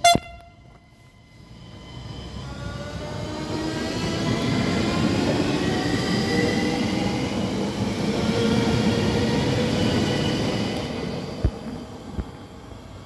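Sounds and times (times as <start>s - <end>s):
train wheels rumbling on rails: 0.6s - 13.0s.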